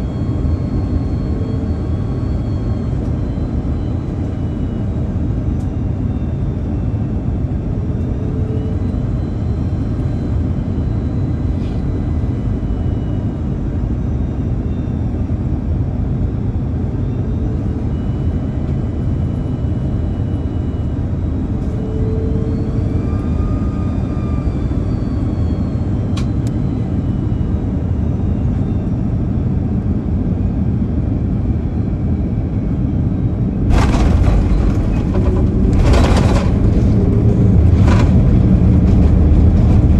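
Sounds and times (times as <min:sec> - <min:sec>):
aircraft cabin rumble: 0:00.0 - 0:39.9
jet engine whine: 0:00.0 - 0:39.9.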